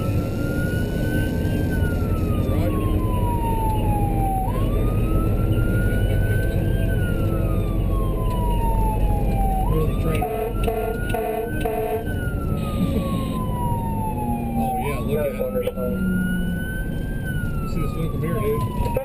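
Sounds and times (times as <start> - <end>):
emergency siren wailing: 0.0 - 19.0
vehicle engine and road rumble: 0.0 - 19.0.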